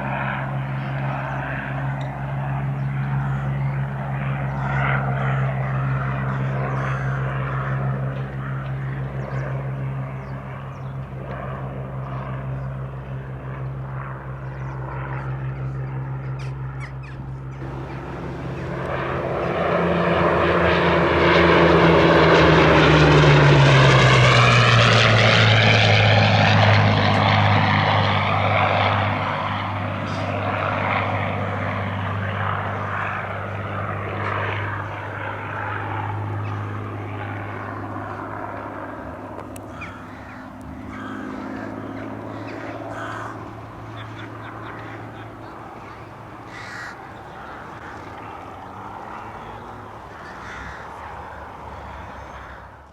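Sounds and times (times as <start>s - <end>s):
propeller aircraft engine drone: 0.0s - 52.9s.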